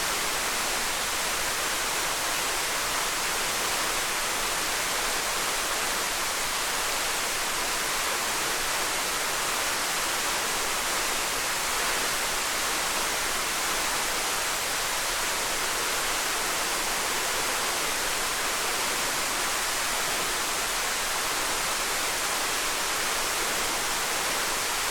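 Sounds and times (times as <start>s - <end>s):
small waterfall rushing: 0.0s - 24.9s.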